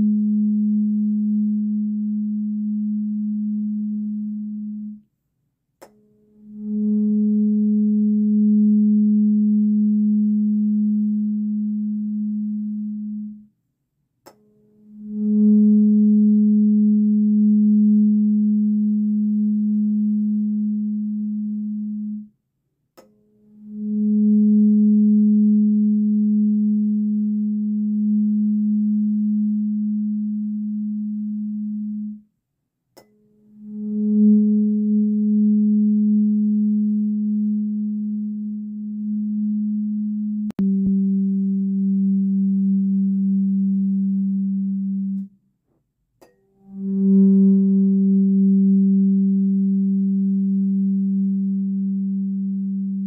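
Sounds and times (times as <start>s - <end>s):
tuning fork low pure tone: 0.0s - 5.2s, 5.8s - 13.6s, 14.2s - 53.0s.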